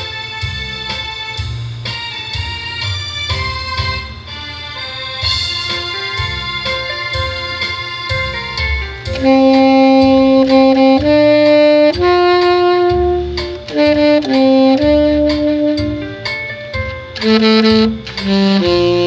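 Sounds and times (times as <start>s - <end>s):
accompaniment with steady beat: 0.0s - 19.0s
tenor saxophone melody: 0.0s - 19.0s.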